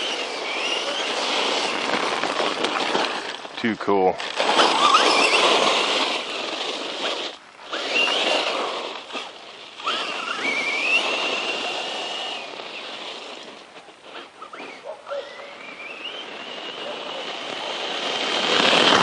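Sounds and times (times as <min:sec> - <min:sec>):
electric motor whining: 0:00.0 - 0:03.4, 0:04.2 - 0:19.0
tyres rushing: 0:00.0 - 0:19.0.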